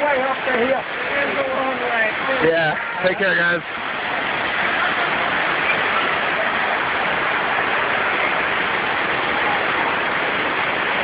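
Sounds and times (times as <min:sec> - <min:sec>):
waterfall pouring into pool: 0:00.0 - 0:11.0.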